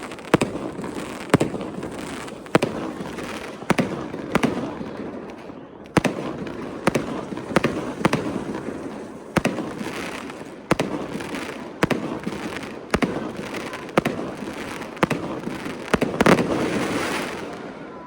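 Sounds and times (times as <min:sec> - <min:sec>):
fireworks bangs: 0:00.0 - 0:18.0
fireworks crackle: 0:00.0 - 0:18.0.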